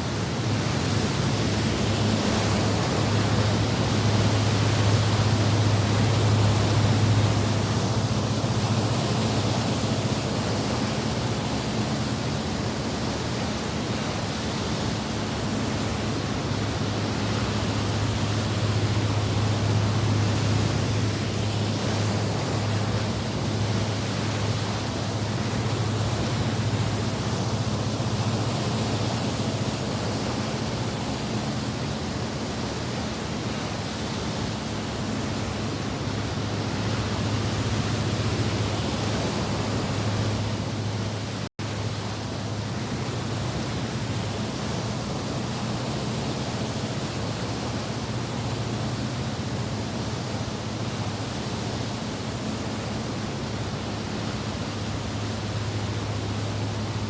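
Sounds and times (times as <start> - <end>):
low even drone: 0.0 - 57.0
steady rushing noise: 0.0 - 57.0.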